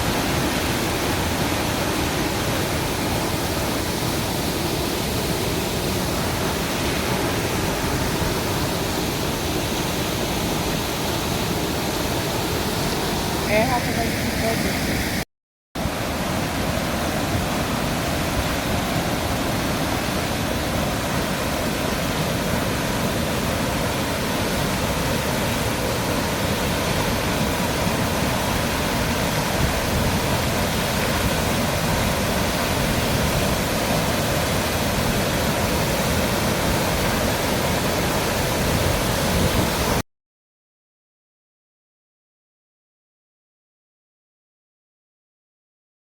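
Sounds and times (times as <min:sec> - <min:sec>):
waterfall roaring: 0:00.0 - 0:15.2, 0:15.8 - 0:40.0.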